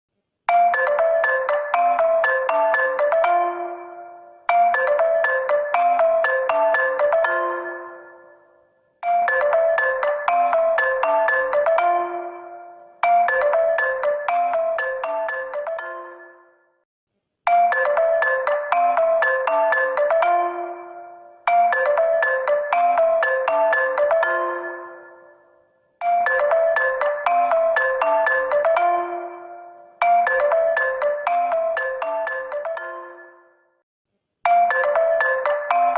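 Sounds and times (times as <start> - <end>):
marimba phone ringtone: 0.5 - 16.8, 17.5 - 25.4, 26.0 - 33.8, 34.5 - 35.9.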